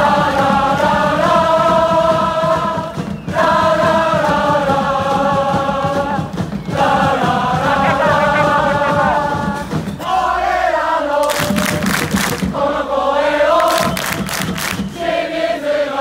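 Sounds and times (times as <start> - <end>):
crowd singing a chant: 0.0 - 16.0.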